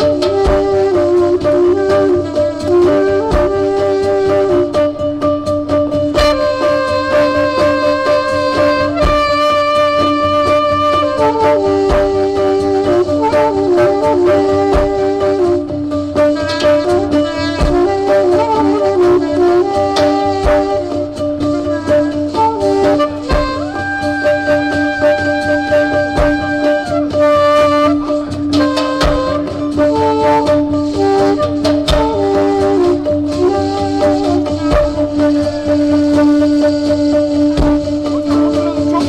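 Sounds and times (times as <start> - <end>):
deep drum beat: 0.0 - 39.0
plucked string melody: 0.0 - 39.0
wind instrument long notes: 0.0 - 39.0.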